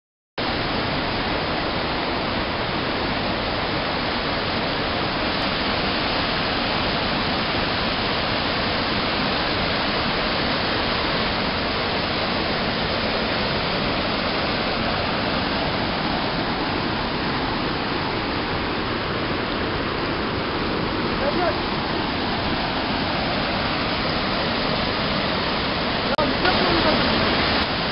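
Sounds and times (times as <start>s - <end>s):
waterfall rushing over rocks: 0.4s - 27.9s.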